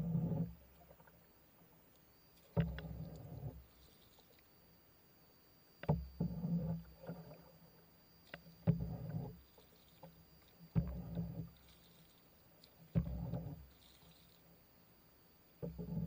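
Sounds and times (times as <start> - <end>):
paddle strokes in water: 0.0 - 4.8, 5.8 - 16.0.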